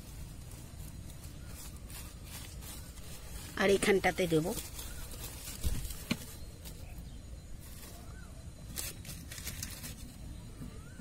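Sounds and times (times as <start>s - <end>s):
hand rustling dry soil and leaves: 0.0s - 11.0s.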